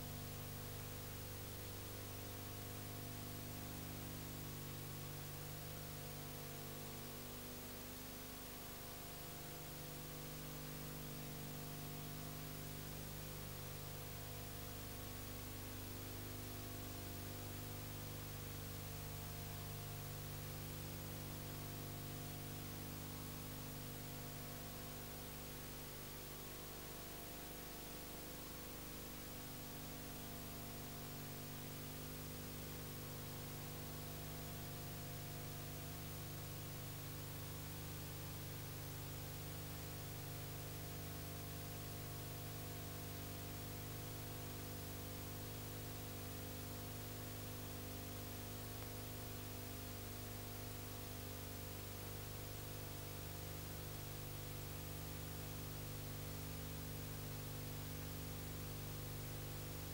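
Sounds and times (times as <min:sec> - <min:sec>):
constant hiss: 0:00.0 - 0:59.9.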